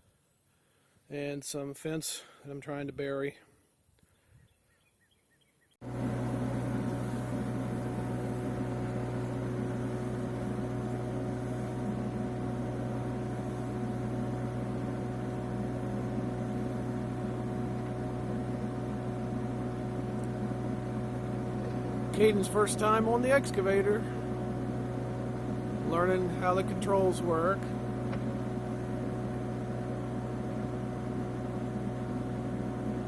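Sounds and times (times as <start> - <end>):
diesel excavator engine running: 5.8 - 33.0.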